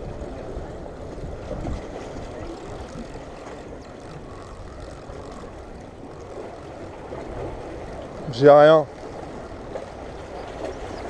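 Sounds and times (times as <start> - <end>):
sea water washing against rocks: 0.0 - 11.0
wind: 0.0 - 11.0.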